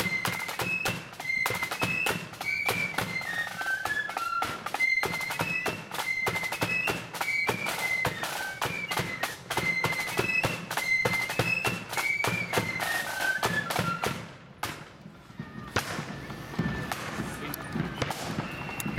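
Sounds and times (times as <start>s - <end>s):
shrill flutes: 0.0s - 14.5s, 15.2s - 18.9s
snare and bass drum beats: 0.0s - 18.9s.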